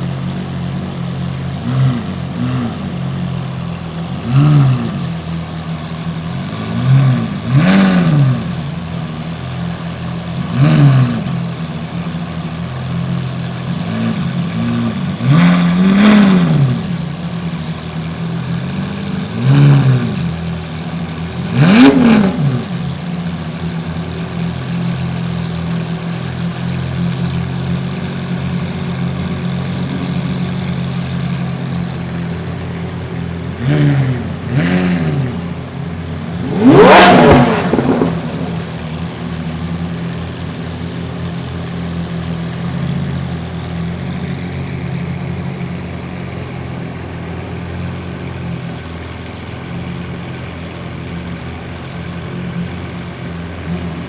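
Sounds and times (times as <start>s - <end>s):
car engine idling: 0.0s - 54.0s
engine throttle blips: 0.0s - 54.0s.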